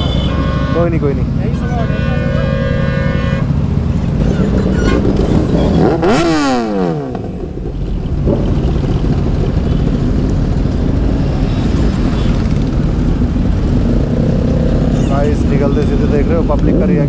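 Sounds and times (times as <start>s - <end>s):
motorcycle engine revving: 0.0s - 17.0s
motorcycle engines idling: 0.0s - 17.0s.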